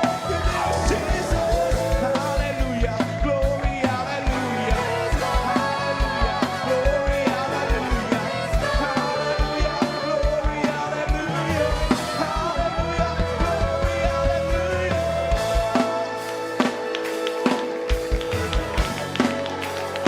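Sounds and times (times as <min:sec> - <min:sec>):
bass: 0:00.0 - 0:20.0
choir singing: 0:00.0 - 0:20.0
guitar: 0:00.0 - 0:20.0.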